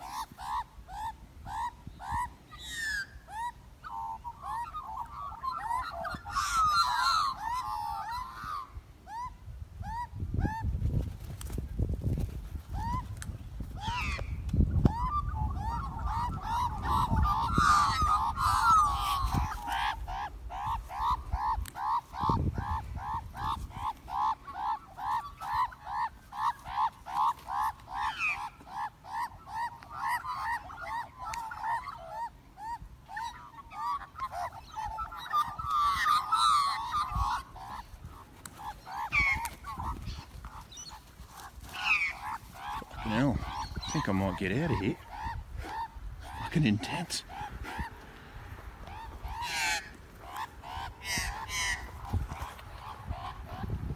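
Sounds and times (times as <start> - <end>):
magpies honking calls: 0.0 - 10.7, 12.7 - 53.9
magpies squawking: 0.0 - 53.9.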